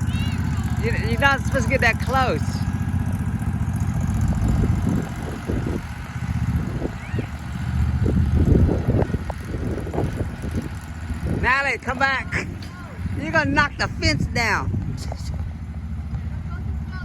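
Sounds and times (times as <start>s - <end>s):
riding lawn mower engine running: 0.0s - 17.0s.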